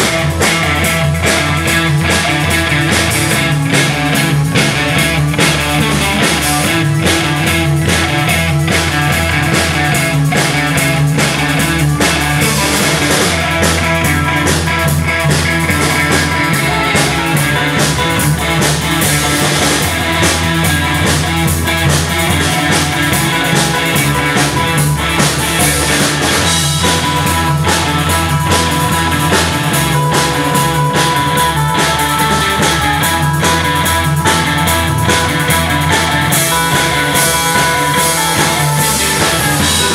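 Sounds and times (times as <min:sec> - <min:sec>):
bass guitar long low notes: 0:00.0 - 0:39.9
distorted electric guitars strumming: 0:00.0 - 0:39.9
drums: 0:00.0 - 0:39.9.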